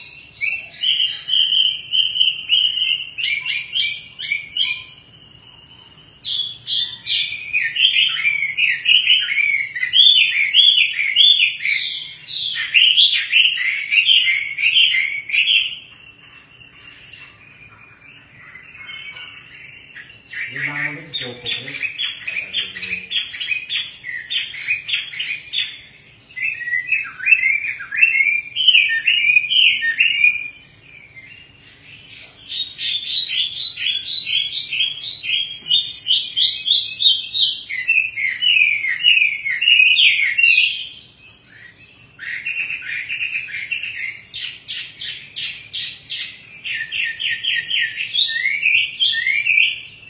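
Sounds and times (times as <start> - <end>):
songbird singing whistled notes: 0.0 - 50.0.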